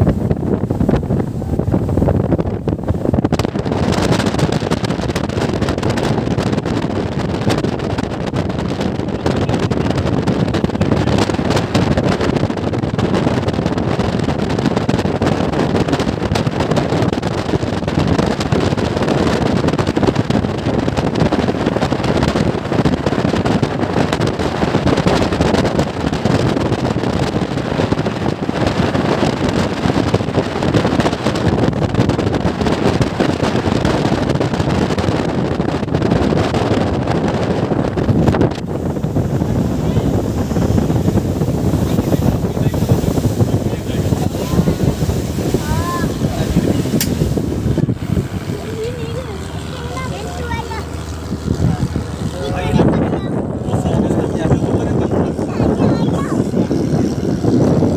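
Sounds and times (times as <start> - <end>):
boat engine running: 0.0 - 57.9
wind buffeting microphone: 0.0 - 57.9.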